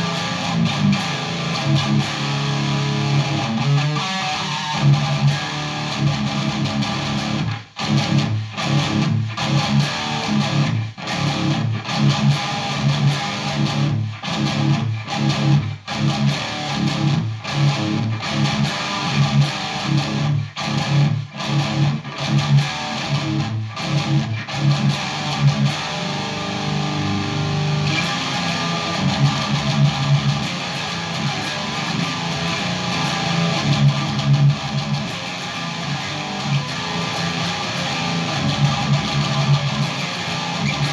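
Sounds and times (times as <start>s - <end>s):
distorted electric guitar riffing: 0.0s - 40.9s.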